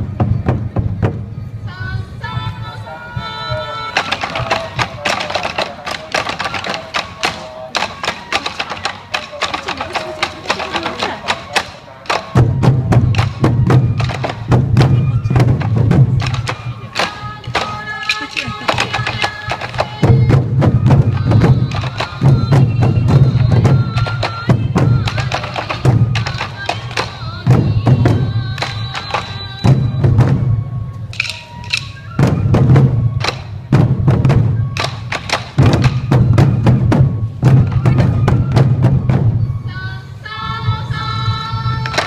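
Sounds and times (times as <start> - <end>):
taiko drums beating: 0.0 - 1.6, 3.2 - 39.6, 41.8 - 42.0
bamboo flutes playing melody: 0.0 - 42.0.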